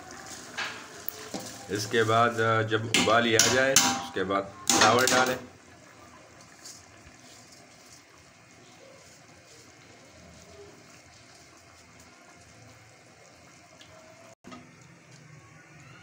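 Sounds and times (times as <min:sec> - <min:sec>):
pot boiling and bubbling: 0:00.0 - 0:16.0.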